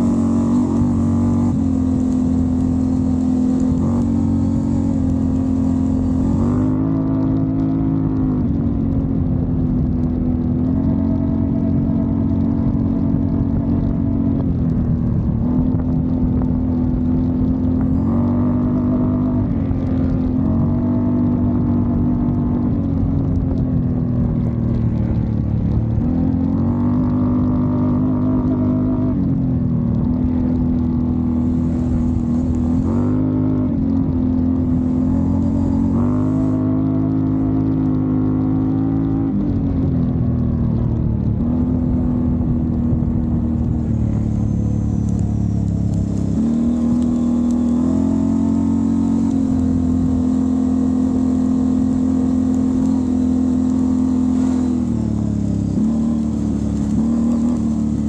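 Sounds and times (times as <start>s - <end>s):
atv engine revving: 0.0s - 14.4s, 15.4s - 39.7s, 41.4s - 58.0s.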